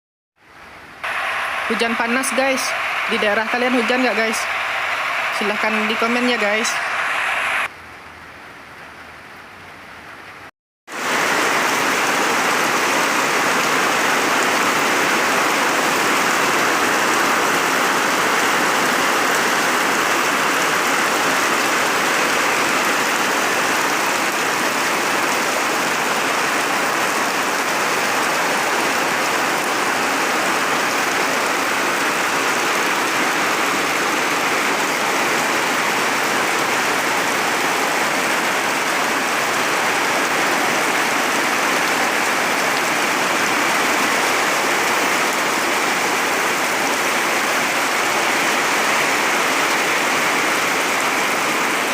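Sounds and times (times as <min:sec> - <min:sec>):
steady rain hissing: 0:00.4 - 0:51.9.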